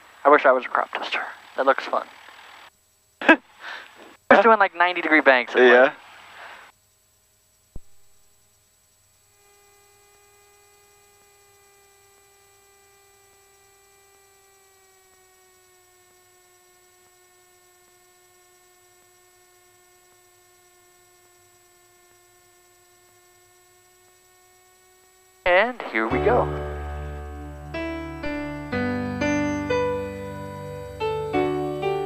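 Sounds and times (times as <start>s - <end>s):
faint steady whine: 0.0s - 32.0s.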